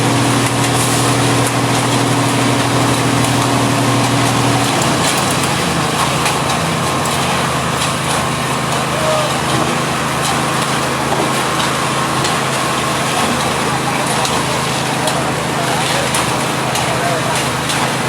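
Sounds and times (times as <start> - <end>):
heavy engine running: 0.0 - 18.0
road noise: 0.0 - 18.0.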